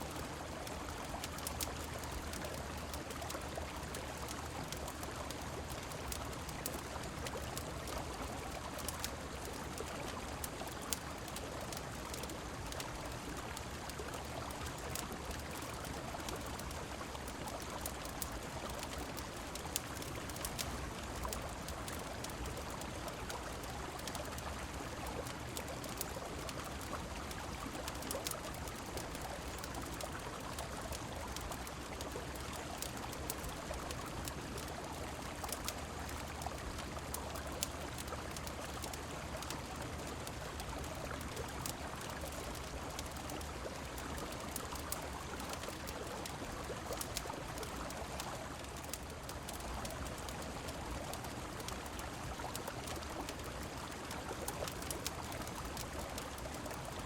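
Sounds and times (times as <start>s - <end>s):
falling rain: 0.0s - 57.0s
wood fire crackling: 0.1s - 57.0s.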